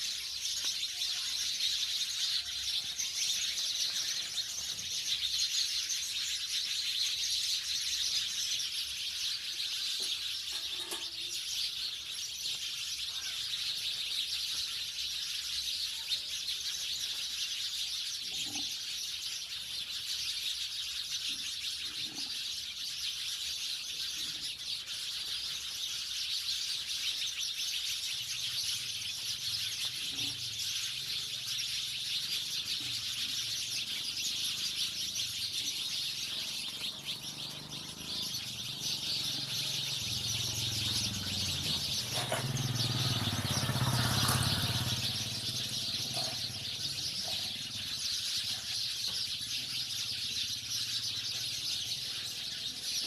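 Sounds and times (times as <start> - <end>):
sparrows chirping: 0.0 - 53.0.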